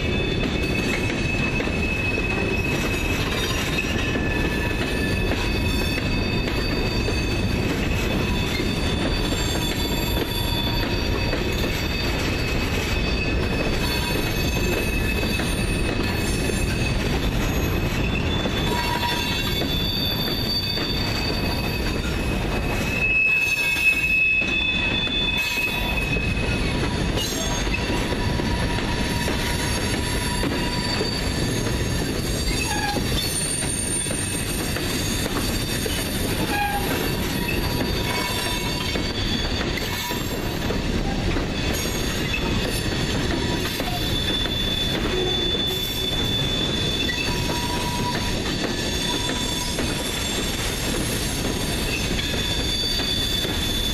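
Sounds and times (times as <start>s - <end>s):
high wheel squeal: 0.0s - 53.9s
steel wheels rolling on rail: 0.0s - 53.9s.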